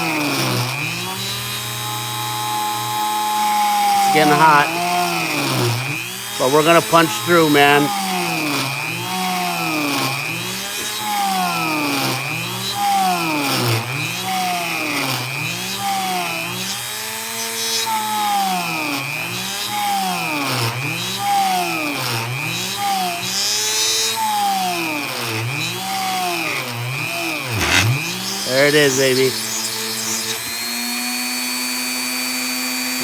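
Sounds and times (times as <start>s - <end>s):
rotary tool motor whining: 0.0s - 19.6s, 25.7s - 33.0s.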